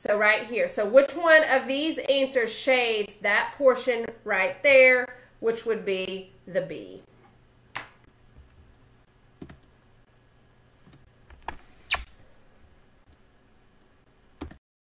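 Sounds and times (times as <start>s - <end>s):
faint room hum: 0.0s - 14.6s.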